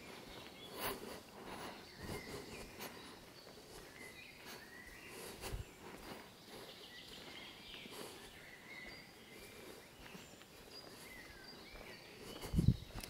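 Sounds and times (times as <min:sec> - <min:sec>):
footsteps on gravel: 0:00.0 - 0:13.0.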